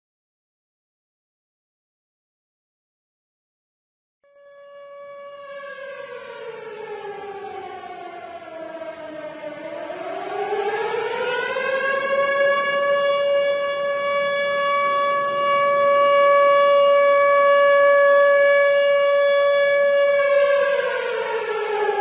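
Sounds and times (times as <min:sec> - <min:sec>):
warning siren: 0:04.2 - 0:22.0.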